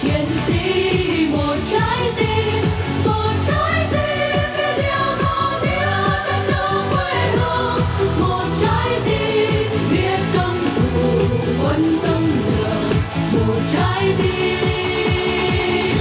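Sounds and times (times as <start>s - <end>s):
people singing into microphones: 0.0s - 16.0s.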